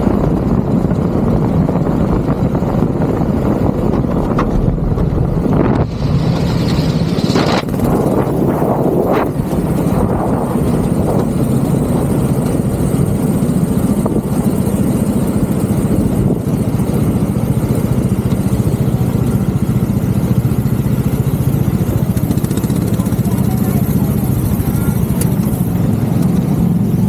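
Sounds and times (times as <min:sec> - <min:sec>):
go-kart engine running: 0:00.0 - 0:27.0.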